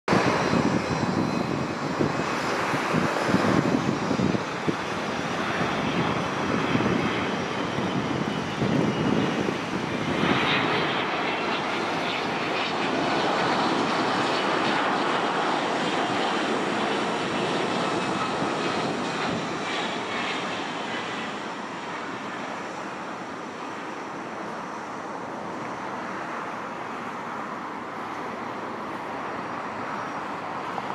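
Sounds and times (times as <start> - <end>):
faint high jet whine: 0.1 - 30.9
jet engine rush: 0.1 - 30.9.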